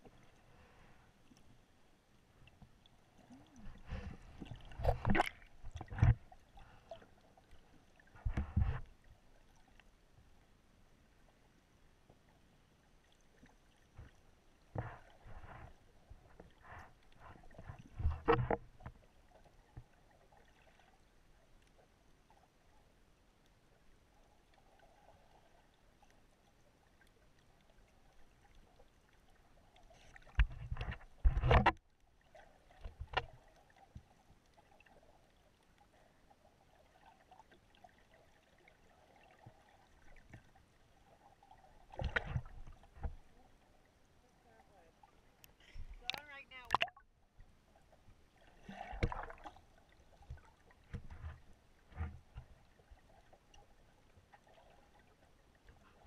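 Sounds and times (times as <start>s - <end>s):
water movement: 0.0s - 10.0s, 11.0s - 56.0s.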